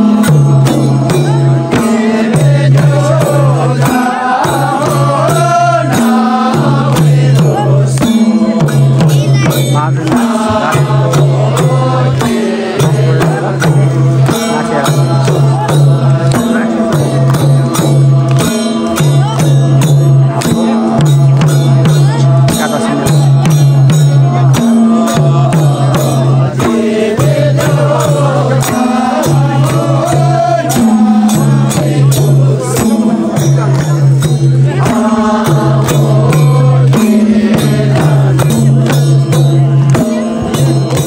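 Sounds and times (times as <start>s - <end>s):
chanting of a mantra: 0.0s - 41.0s
steady percussion beats: 0.0s - 41.0s.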